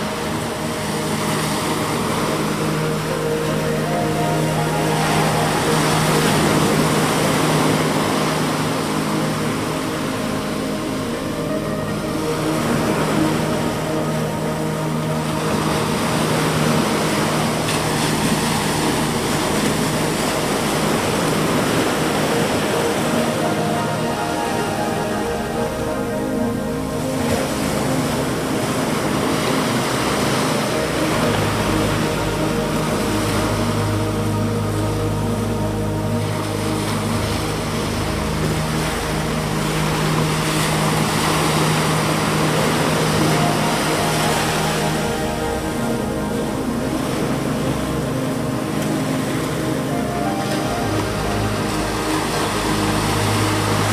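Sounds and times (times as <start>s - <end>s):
ocean waves on sandy beach: 0.0s - 53.9s
steady low drone: 0.0s - 53.9s.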